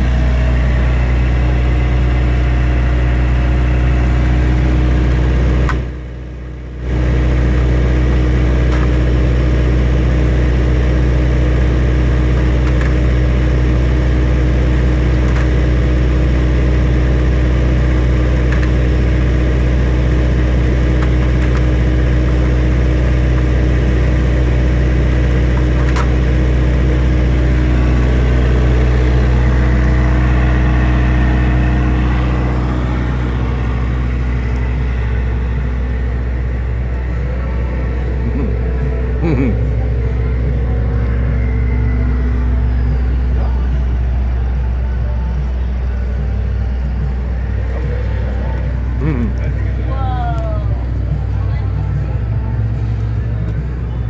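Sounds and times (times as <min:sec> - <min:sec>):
large engine idling: 0:00.0 - 0:54.0.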